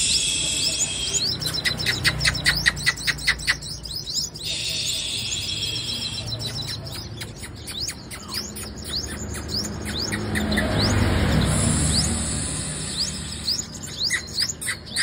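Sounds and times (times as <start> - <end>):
sunbird chirping and trilling: 0.0 - 15.0.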